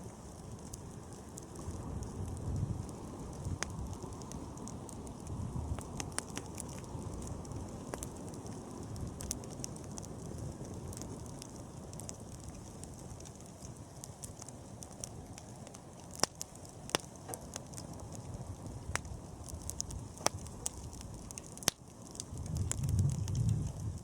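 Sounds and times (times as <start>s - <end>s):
burning wood crackling and popping: 0.0s - 24.0s
low rush of flame: 0.0s - 24.0s.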